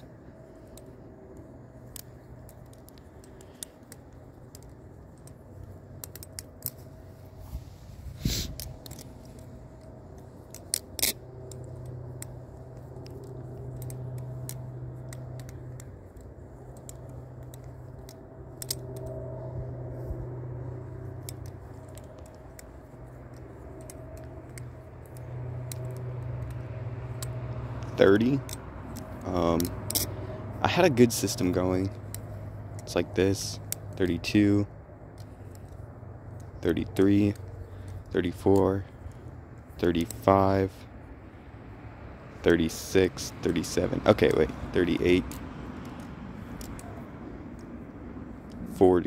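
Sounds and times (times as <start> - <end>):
butterfly knife clicking and rattling: 0.0 - 7.5, 8.2 - 40.3, 42.8 - 48.8.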